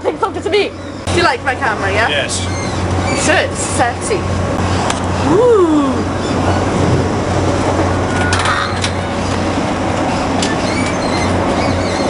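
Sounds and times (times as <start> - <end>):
train running from inside carriage: 0.0 - 12.0.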